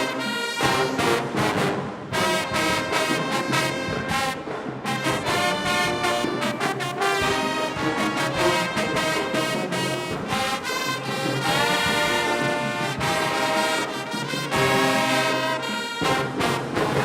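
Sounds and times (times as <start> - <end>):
marching band brass chords: 0.0 - 17.0.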